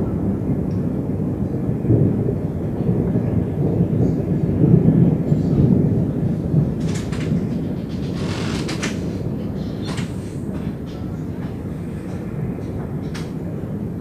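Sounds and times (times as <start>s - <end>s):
rolling thunder: 0.0s - 14.0s.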